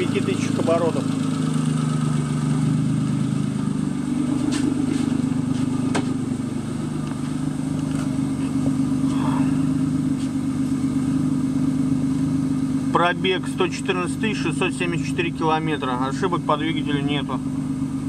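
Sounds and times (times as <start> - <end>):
petrol engine high-revving drone: 0.0 - 18.0.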